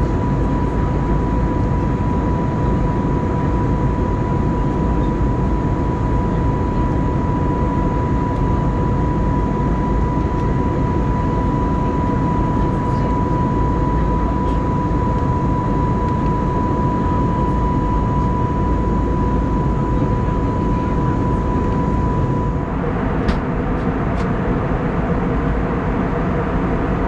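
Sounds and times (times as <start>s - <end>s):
jet engine noise: 0.0s - 27.0s.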